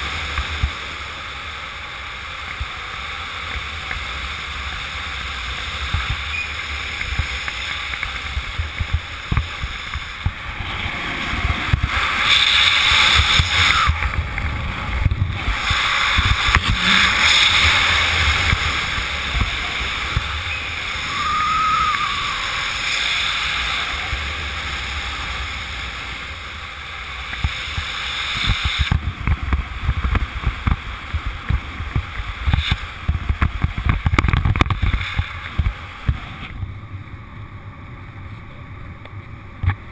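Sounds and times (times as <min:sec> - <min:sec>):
air rushing over microphone: 0:00.0 - 0:36.6.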